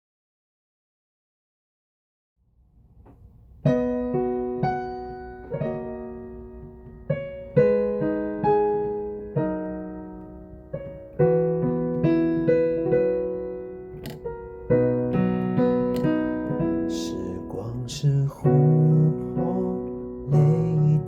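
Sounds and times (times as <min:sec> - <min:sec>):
piano chords: 0:03.5 - 0:21.0.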